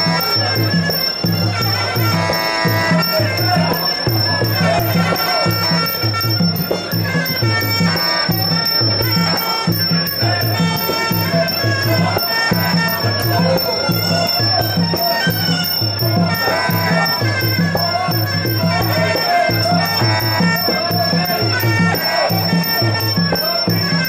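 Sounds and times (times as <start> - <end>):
reed pipe melody: 0.0 - 24.0
repeating drum beat: 0.0 - 24.0.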